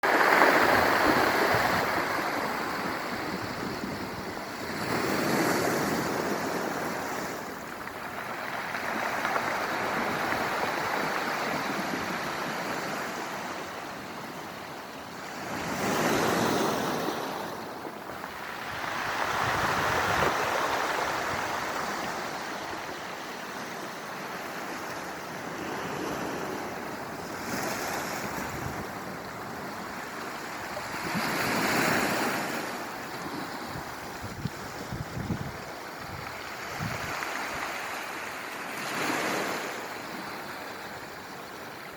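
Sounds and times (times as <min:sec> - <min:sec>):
waves rolling beach stones: 0:00.0 - 0:41.9.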